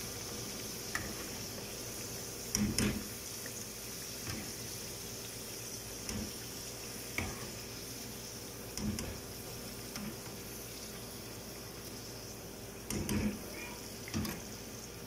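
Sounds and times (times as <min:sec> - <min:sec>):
carrots sizzling in oil: 0:00.0 - 0:15.0.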